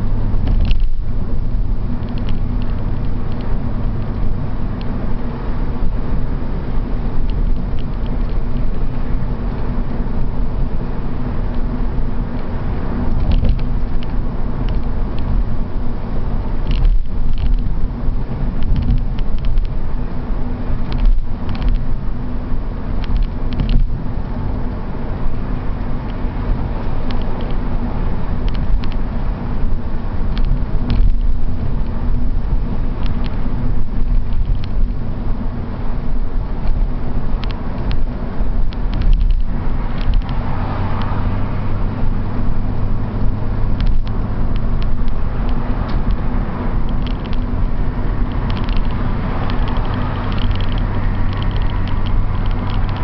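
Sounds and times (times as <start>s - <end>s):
car engine drone: 0.0s - 53.0s
tyre and road rumble: 0.0s - 53.0s.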